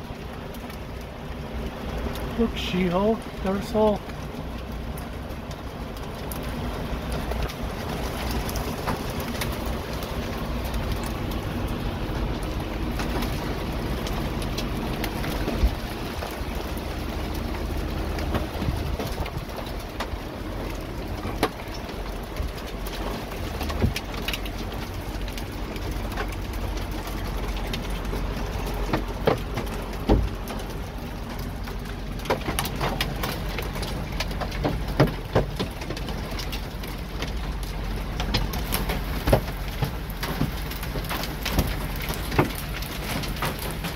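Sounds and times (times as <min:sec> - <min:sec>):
constant low rumble: 0:00.0 - 0:43.9
rain and hail on truck roof: 0:00.0 - 0:43.9
hail knocks: 0:01.6 - 0:43.9.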